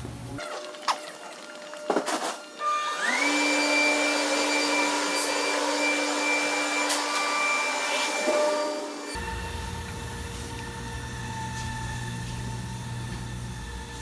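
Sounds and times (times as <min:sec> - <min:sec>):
electric machine whine: 0:02.2 - 0:14.0.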